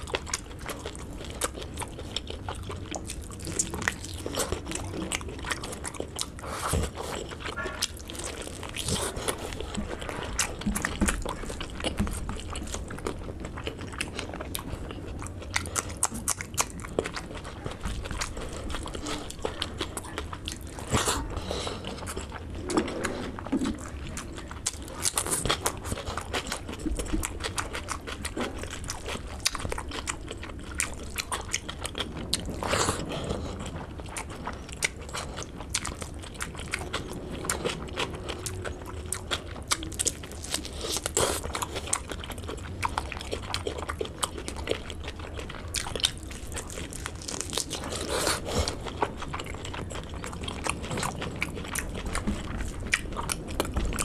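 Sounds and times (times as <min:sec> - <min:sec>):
close chewing and mouth smacks: 0:00.0 - 0:54.0
faint low hum: 0:00.0 - 0:54.0.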